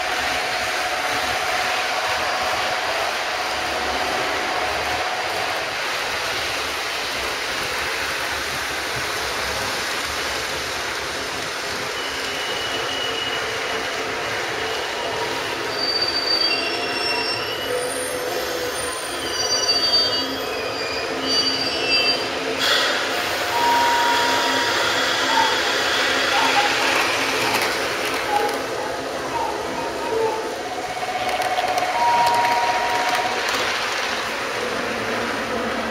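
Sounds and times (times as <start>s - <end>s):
model trains running on track: 0.0s - 35.9s
wheels squealing on rails: 0.0s - 35.9s.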